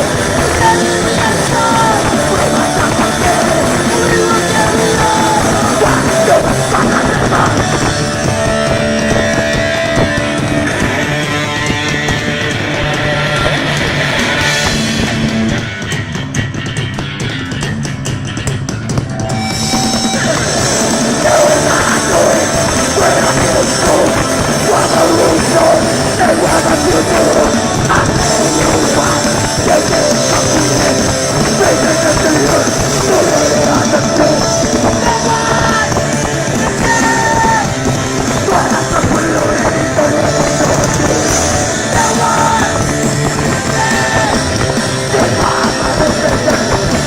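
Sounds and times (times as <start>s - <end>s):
live punk rock band with singing: 0.0s - 47.0s.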